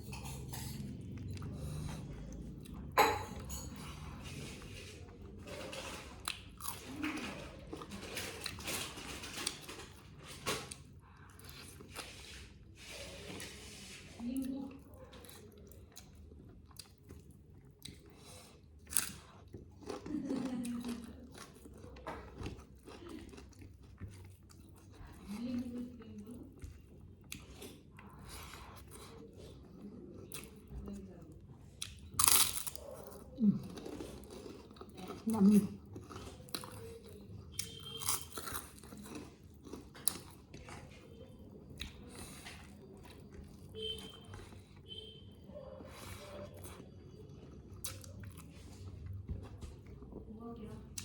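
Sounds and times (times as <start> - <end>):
chewing and biting mouth sounds: 0.0 - 13.5, 14.4 - 51.0.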